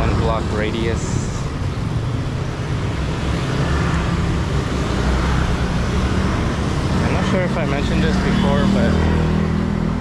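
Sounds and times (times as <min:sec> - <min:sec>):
low traffic rumble: 0:00.0 - 0:10.0
vehicles passing: 0:00.0 - 0:10.0.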